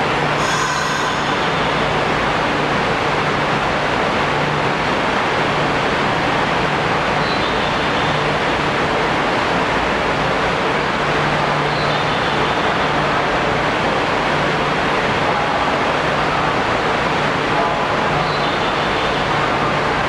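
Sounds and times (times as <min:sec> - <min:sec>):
subway train rushing: 0:00.0 - 0:20.0.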